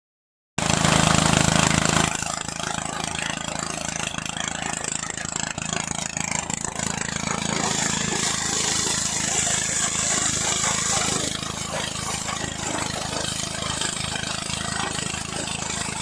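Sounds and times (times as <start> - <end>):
machine engine running: 0.6 - 16.0.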